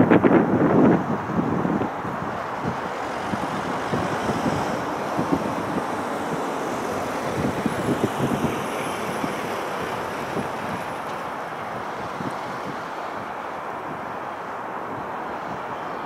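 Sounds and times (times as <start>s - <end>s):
jet engines taxiing: 0.0s - 16.0s.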